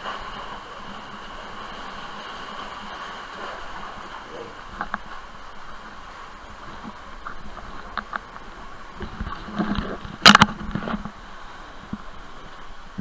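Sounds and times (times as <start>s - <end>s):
sea water lapping among rocks: 0.0s - 13.0s.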